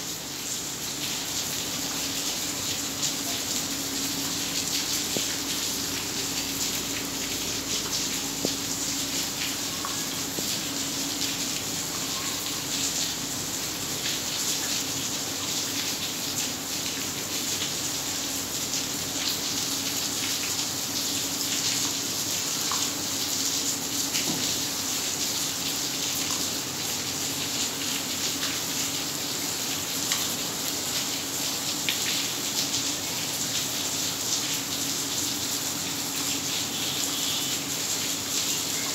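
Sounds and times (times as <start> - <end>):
heavy rain on wet pavement: 0.0 - 38.9.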